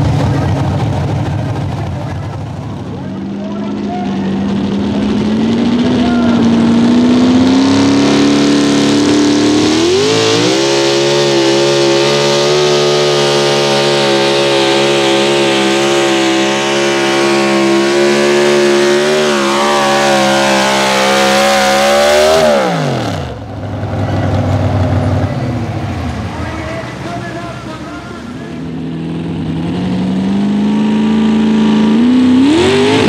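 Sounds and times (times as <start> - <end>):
truck engine at full throttle: 0.0 - 33.0.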